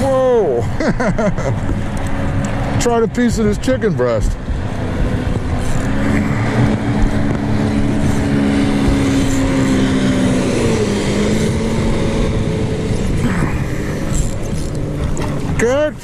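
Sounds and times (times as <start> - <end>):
low rumble: 0.0 - 16.0
motor engine droning: 0.0 - 16.0.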